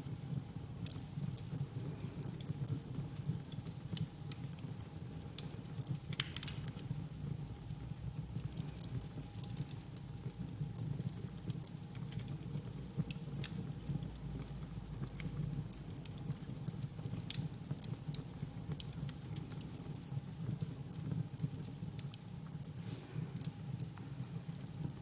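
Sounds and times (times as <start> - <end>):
burning wood crackling and popping: 0.0 - 25.0
low rumble of flames: 0.0 - 25.0.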